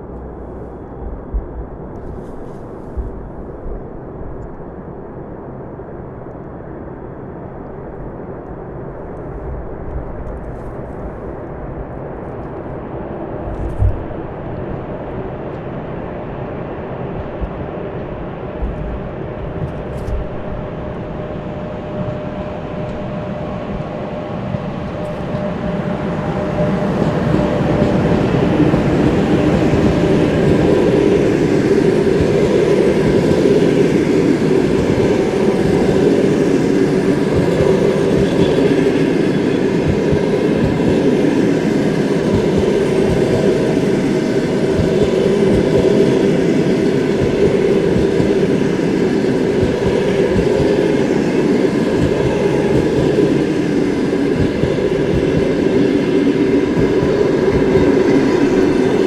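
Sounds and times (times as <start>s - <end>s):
train carriages rumbling past: 9.4s - 59.0s.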